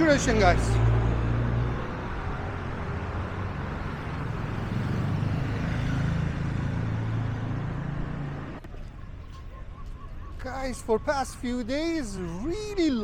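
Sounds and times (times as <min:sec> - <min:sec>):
low traffic hum: 0:00.0 - 0:13.0
vehicles passing: 0:00.0 - 0:13.0.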